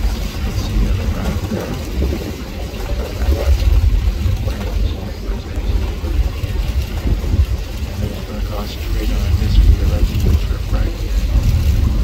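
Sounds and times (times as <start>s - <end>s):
ferry engines rumbling: 0.0s - 12.0s
wind buffeting microphone: 0.0s - 12.0s.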